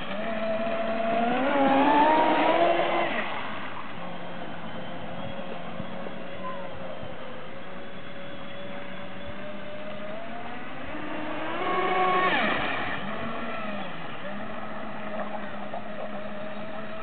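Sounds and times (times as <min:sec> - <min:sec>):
electric boat motor whining: 0:00.0 - 0:17.0.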